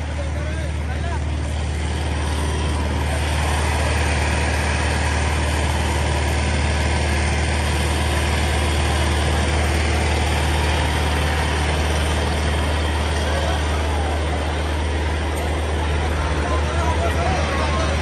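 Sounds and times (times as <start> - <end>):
tractor engine running loudly: 0.0 - 18.0.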